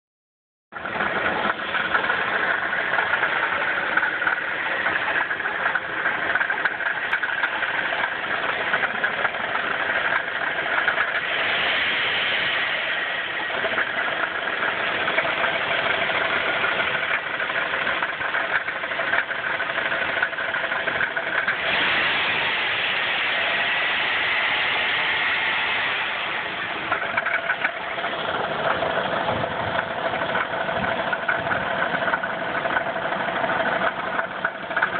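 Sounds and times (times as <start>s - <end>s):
car engine running with rapid knock: 0.7s - 34.9s.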